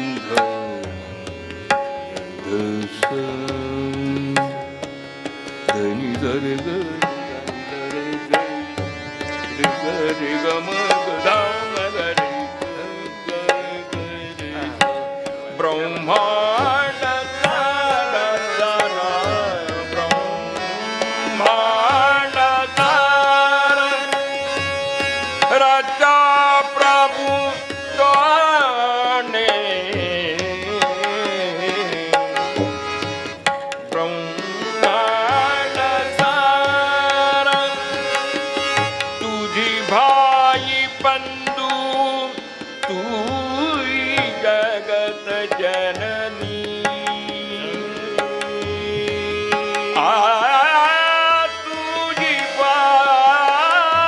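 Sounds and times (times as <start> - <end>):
harmonium and tanpura drone: 0.0 - 54.0
man singing ornamented melody: 0.0 - 54.0
tabla strokes: 0.0 - 54.0.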